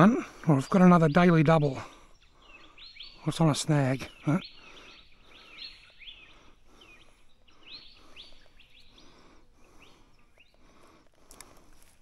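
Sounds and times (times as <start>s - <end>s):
birds chirping: 0.0s - 12.0s
quiet outdoor hiss: 0.0s - 12.0s.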